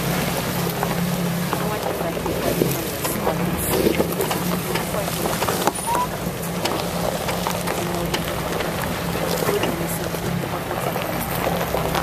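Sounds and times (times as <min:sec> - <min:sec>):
car engine running low: 0:00.0 - 0:12.0
tyres crackling over dry leaves: 0:00.0 - 0:12.0.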